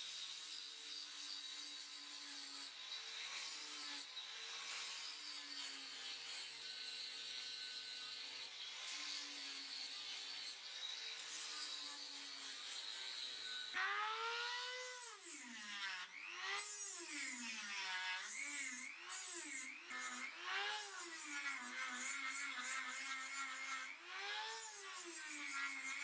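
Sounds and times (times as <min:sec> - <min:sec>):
angle grinder grinding metal: 0:00.0 - 0:26.0
rotary tool high whine: 0:00.0 - 0:26.0.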